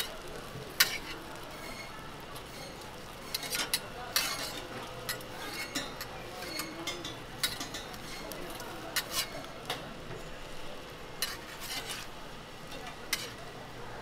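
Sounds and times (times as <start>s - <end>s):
metal spatula scraping griddle: 0.0s - 9.5s, 11.2s - 13.4s.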